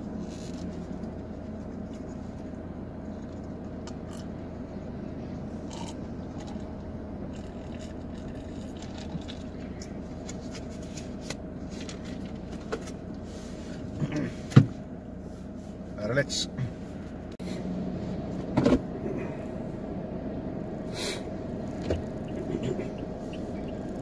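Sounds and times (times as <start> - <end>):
car cabin hum: 0.0 - 24.0.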